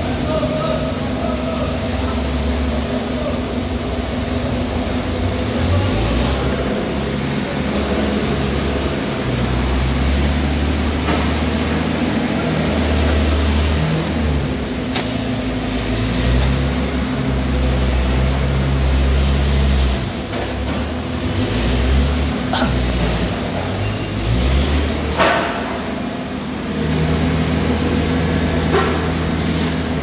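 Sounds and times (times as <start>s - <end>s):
diesel excavator engine drone: 0.0s - 30.0s.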